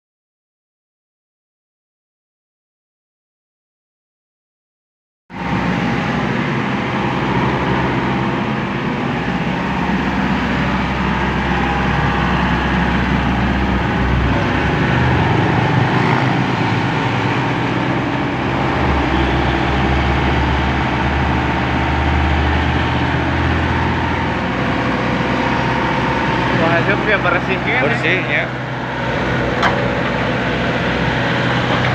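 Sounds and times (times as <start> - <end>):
excavator diesel engine running: 5.4 - 31.9.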